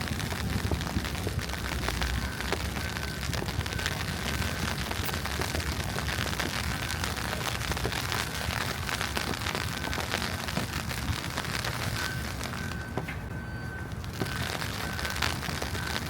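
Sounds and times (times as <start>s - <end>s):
wet snow falling hiss: 0.0s - 12.7s, 14.0s - 16.0s.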